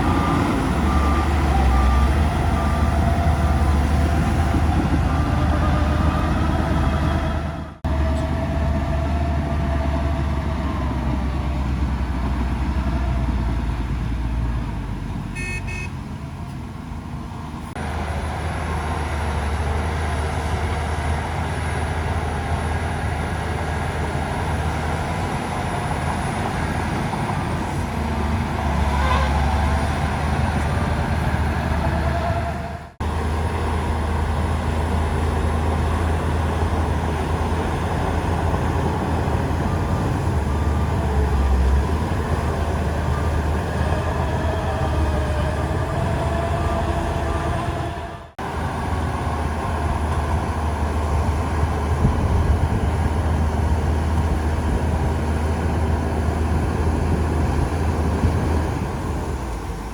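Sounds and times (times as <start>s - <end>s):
diesel machinery engines running: 0.0s - 59.9s.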